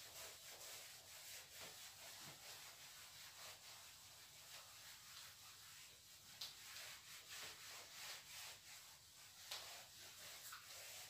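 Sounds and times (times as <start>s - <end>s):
duster scrubbing whiteboard: 0.0s - 11.0s.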